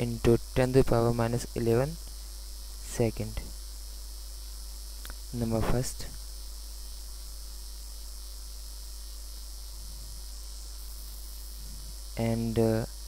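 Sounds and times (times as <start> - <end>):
electrical mains hum: 0.0 - 13.0
high-pitched hiss: 0.0 - 13.0.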